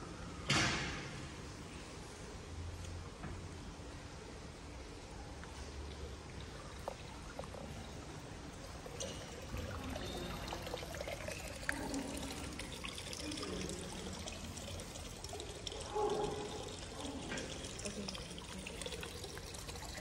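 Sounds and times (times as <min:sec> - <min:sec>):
water pouring and trickling: 0:03.7 - 0:20.0.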